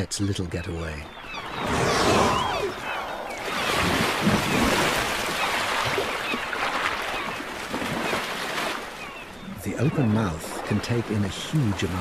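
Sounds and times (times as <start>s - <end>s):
sea water splashing and surging: 1.0s - 12.0s.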